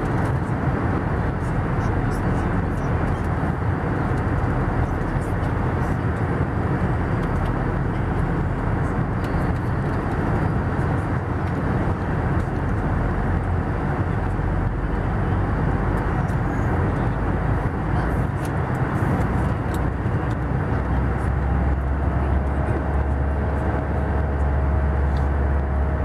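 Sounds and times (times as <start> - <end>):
aircraft cabin engine and airflow rush: 0.0 - 26.0.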